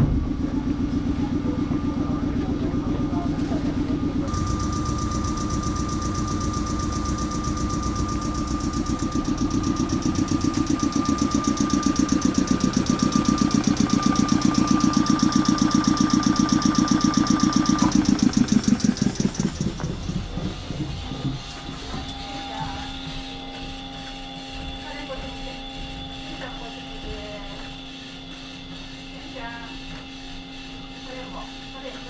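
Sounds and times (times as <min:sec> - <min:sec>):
thin steady whine: 0:00.0 - 0:32.0
train machinery chugging: 0:00.0 - 0:32.0.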